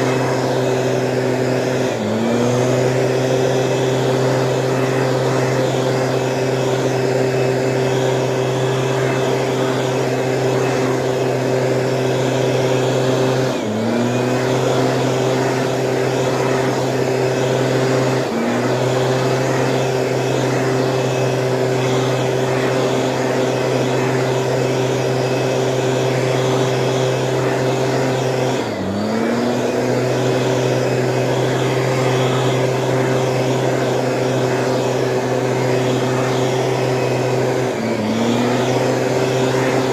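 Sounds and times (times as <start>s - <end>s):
weed sprayer engine running: 0.0s - 39.9s.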